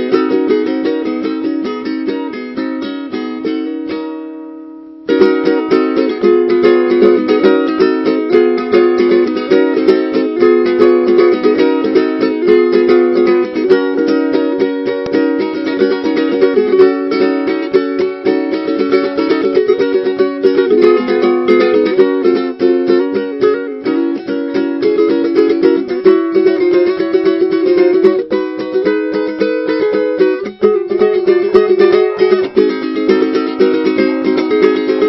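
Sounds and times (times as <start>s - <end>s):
ukulele playing: 0.0s - 35.0s.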